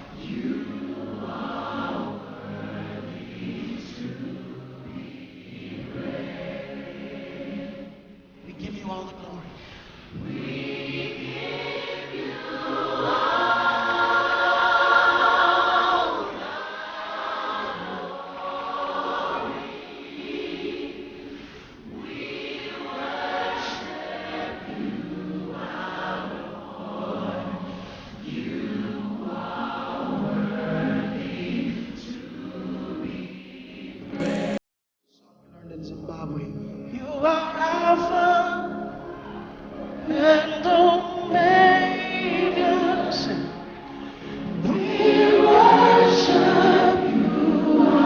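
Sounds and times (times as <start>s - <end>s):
group of voices singing: 0.0s - 8.2s, 10.0s - 34.6s, 37.3s - 48.0s.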